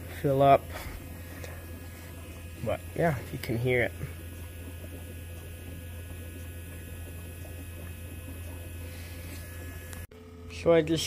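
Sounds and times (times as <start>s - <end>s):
electric fuel pump humming: 0.0s - 11.0s.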